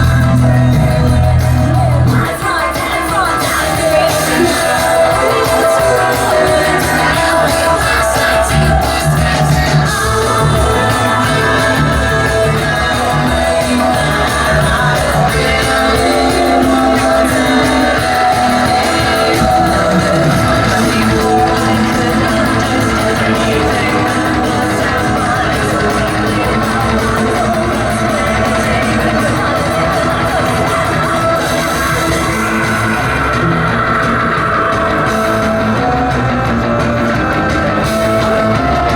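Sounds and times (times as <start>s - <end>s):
drums: 0.0s - 38.9s
electric guitars: 0.0s - 38.9s
person singing: 0.0s - 38.9s.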